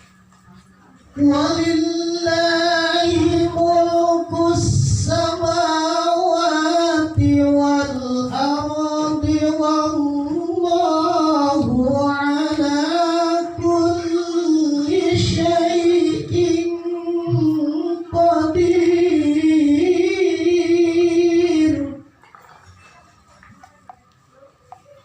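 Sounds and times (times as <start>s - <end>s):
man chanting melodically: 1.2s - 22.0s.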